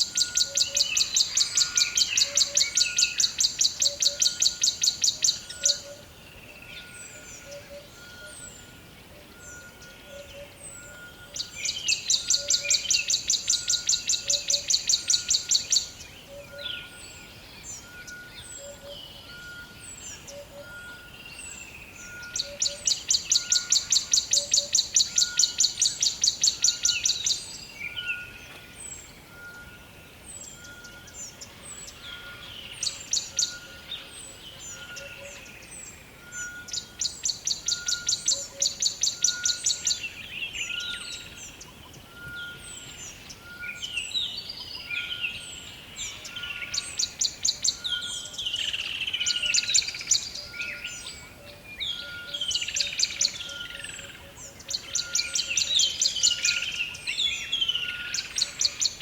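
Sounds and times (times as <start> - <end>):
birds chirping and whistling: 0.0 - 59.0.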